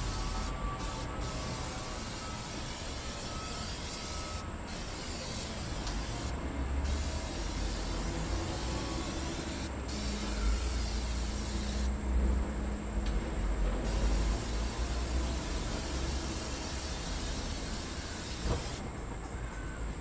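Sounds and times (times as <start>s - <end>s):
aerosol spray hissing: 0.0s - 12.0s, 13.8s - 18.8s.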